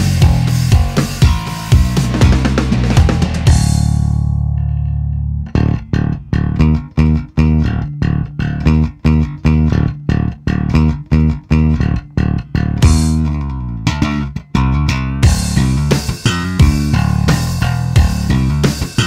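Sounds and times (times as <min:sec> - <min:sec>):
electric bass guitar riff: 0:00.0 - 0:19.0.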